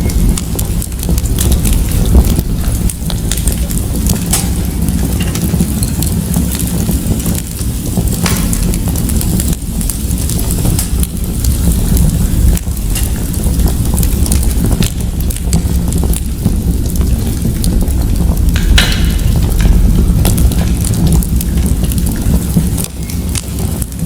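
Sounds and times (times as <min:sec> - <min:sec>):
low fire rumble: 0:00.0 - 0:24.0
wood fire crackling: 0:00.0 - 0:24.0.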